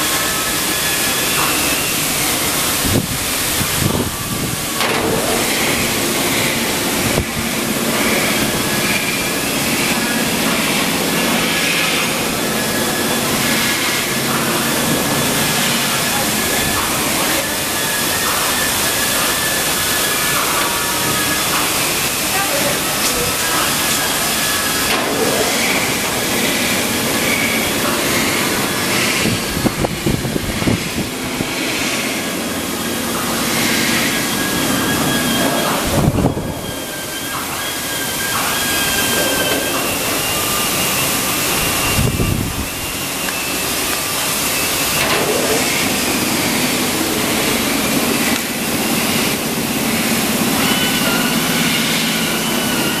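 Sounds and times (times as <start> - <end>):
belt sanding machine running: 0.0 - 53.0.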